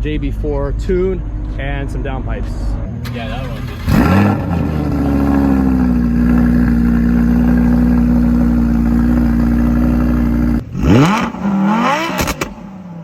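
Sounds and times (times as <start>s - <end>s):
car engine running and revving: 2.4s - 13.0s.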